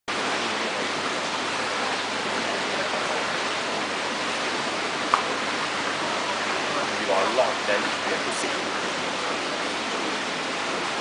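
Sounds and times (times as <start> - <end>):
running water rushing: 0.1 - 11.0.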